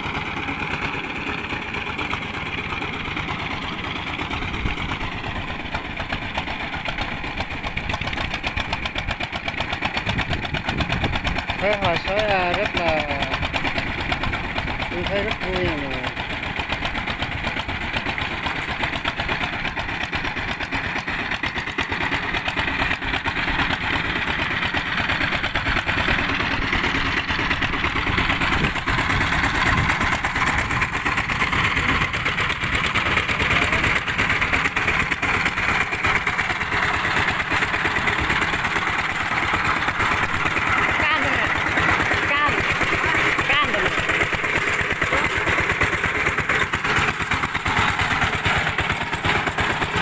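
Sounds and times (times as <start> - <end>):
walking tractor engine chugging: 0.0 - 50.0.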